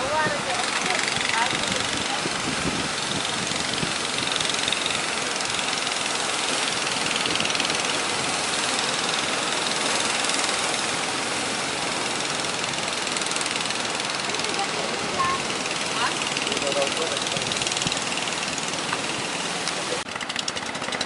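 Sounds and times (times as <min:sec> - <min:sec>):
strong wind: 0:00.0 - 0:20.1
rough surf: 0:00.0 - 0:21.0.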